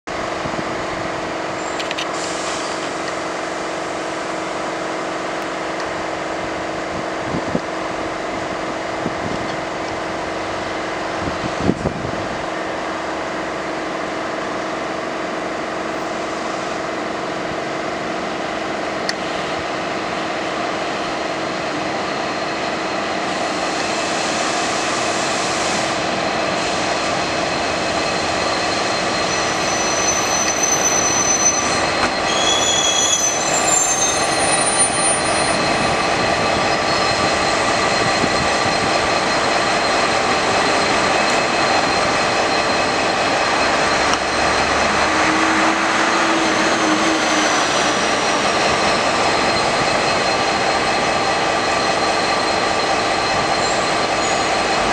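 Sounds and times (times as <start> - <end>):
diesel locomotive engine hum: 0.1 - 54.9.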